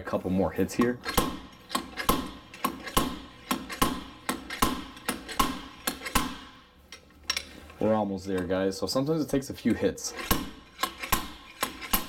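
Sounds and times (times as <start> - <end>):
slide hammer metallic clanks: 0.7 - 8.7, 10.1 - 12.0.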